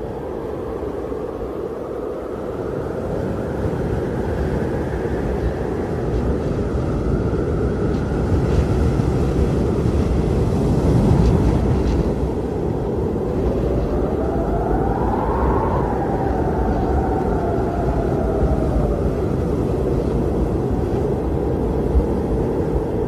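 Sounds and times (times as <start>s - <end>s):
blizzard wind rushing: 0.0s - 23.0s.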